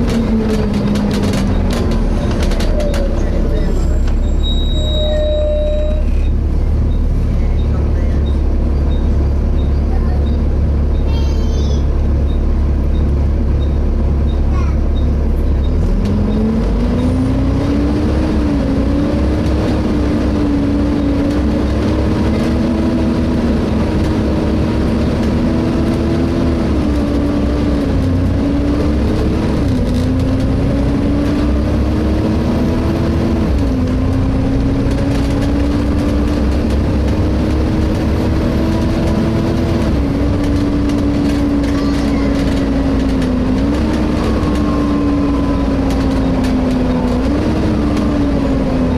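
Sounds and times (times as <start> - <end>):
diesel bus engine drone: 0.0 - 48.9
drivetrain whine: 0.0 - 48.9.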